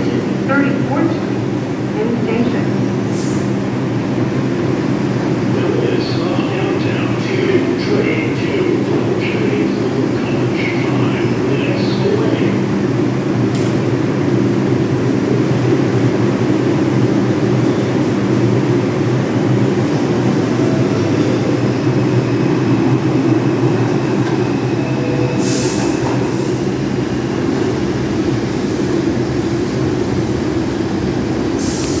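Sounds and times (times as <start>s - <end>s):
subway train rumbling past: 0.0s - 32.0s.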